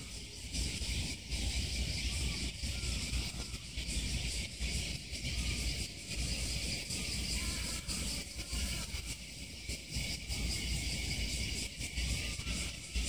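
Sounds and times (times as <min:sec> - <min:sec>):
high-pitched hiss: 0:00.0 - 0:13.0.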